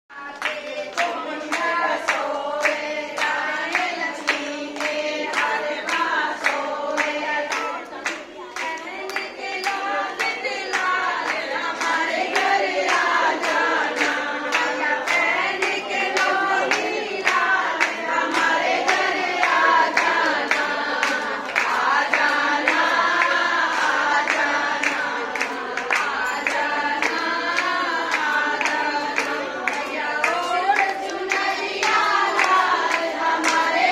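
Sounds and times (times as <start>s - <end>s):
hands clapping to a beat: 0.1s - 33.9s
women singing in unison: 0.1s - 33.9s.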